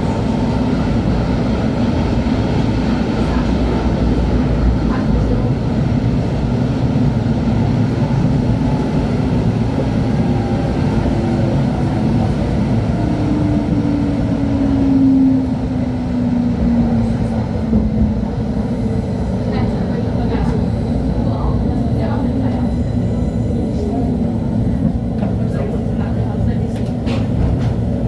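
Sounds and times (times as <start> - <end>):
light rail car rumbling: 0.0 - 28.0.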